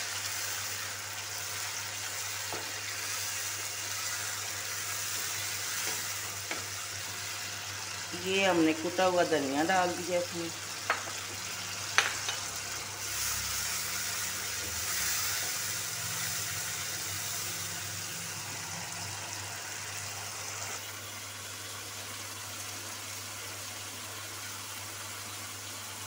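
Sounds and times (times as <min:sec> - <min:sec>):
masala sizzling in oil: 0:00.0 - 0:26.0.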